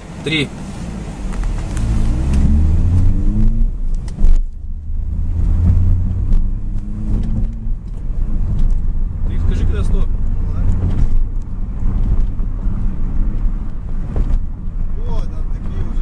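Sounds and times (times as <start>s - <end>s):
car engine accelerating: 0.0s - 16.0s
gear change thump: 0.2s - 16.0s.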